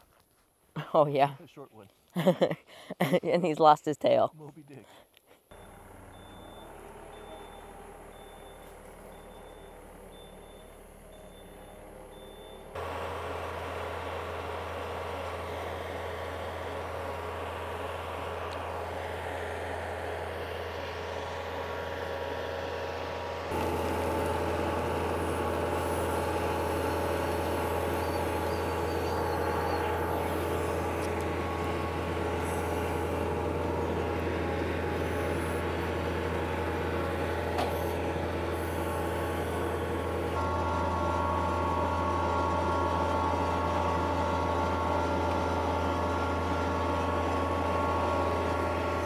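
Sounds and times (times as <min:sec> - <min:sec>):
diesel tractor engine running: 0:05.4 - 0:49.0.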